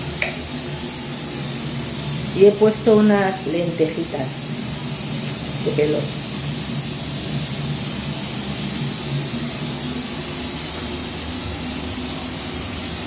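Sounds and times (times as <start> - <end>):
pressure cooker hissing: 0.0 - 13.0.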